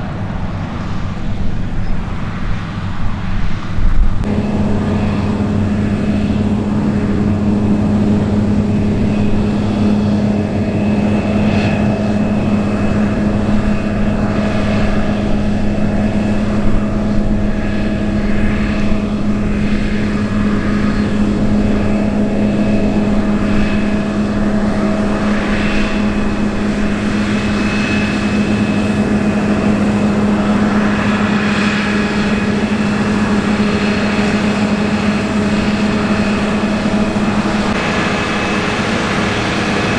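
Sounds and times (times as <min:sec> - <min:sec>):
diesel engine running: 0:04.0 - 0:39.9.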